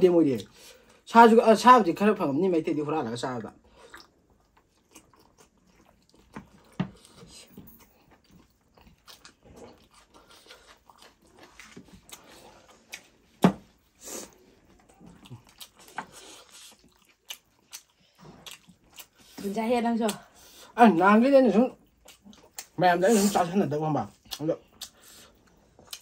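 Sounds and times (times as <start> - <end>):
chewing and crunching food: 3.0 - 26.0.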